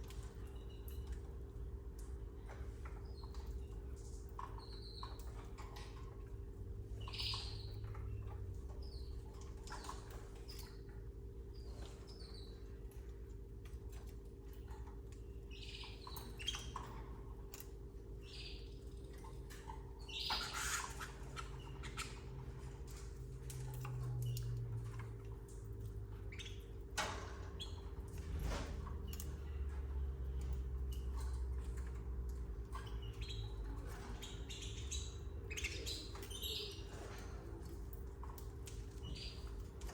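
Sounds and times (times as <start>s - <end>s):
low electrical hum: 0.0s - 39.9s
canaries chirping: 2.0s - 10.9s, 11.5s - 39.9s.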